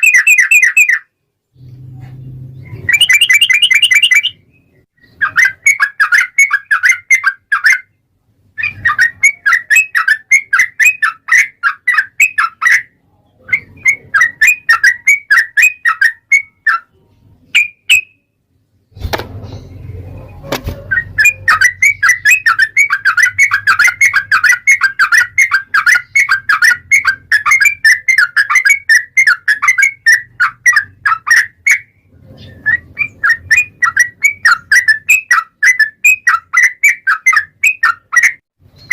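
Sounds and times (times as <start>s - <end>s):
bird chattering song: 0.0s - 18.3s, 19.4s - 38.9s.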